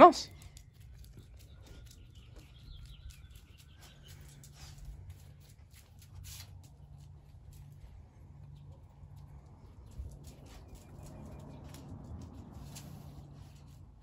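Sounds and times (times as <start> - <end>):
dog claws clicking on concrete: 0.3 - 13.8
faint birdsong: 0.3 - 13.9.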